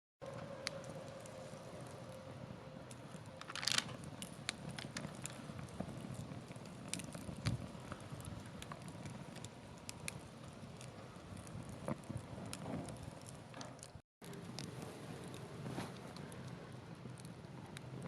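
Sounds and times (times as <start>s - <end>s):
wood fire crackling: 0.2s - 18.0s.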